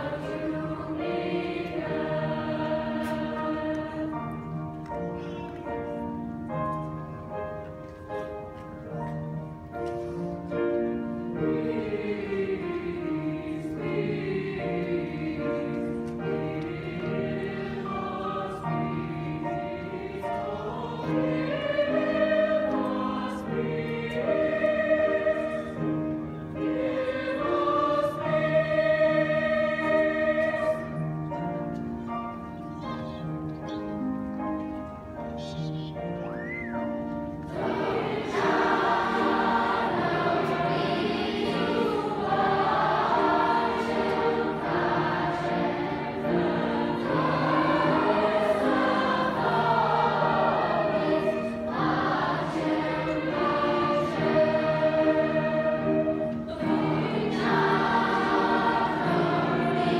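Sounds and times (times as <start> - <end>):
children's choir singing: 0.0 - 34.2, 35.0 - 59.9.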